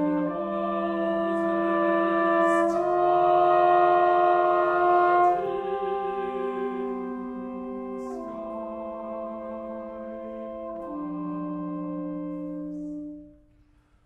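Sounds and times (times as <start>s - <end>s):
brass and clarinet chords: 0.0s - 13.6s.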